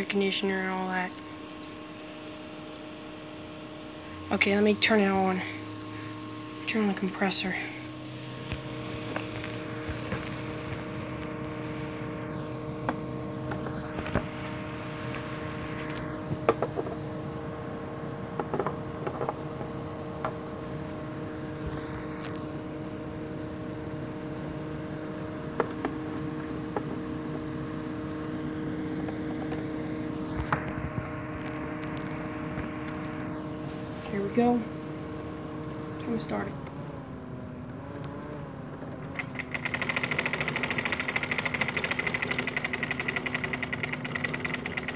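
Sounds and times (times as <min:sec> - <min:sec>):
air conditioner humming: 0:00.0 - 0:44.9.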